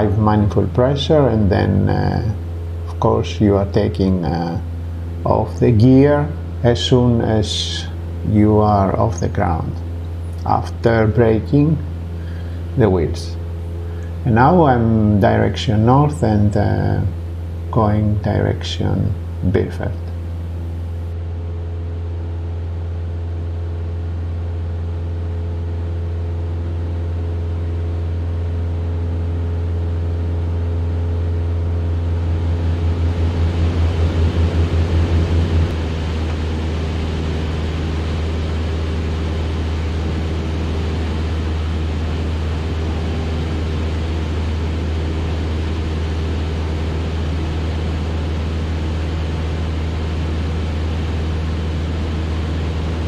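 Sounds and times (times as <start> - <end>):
aircraft engine and propeller droning: 0.0 - 53.0.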